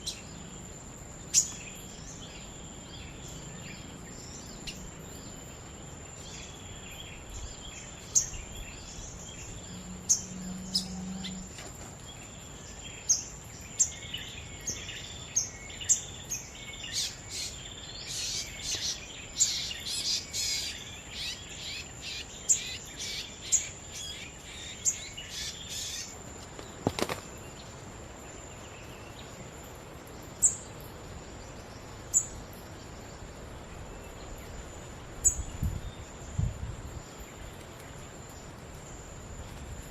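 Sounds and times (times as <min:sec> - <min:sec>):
high insect drone: 0:00.0 - 0:39.9
small birds chirping: 0:00.0 - 0:39.9.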